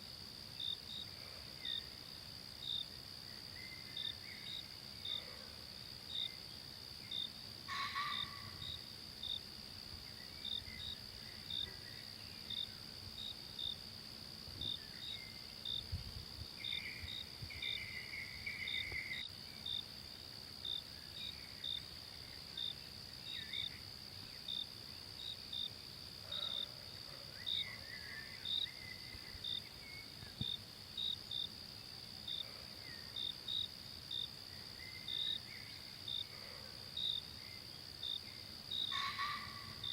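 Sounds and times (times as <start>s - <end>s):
cricket-like chirp: 0.0s - 39.9s
faint insect call: 0.0s - 39.9s.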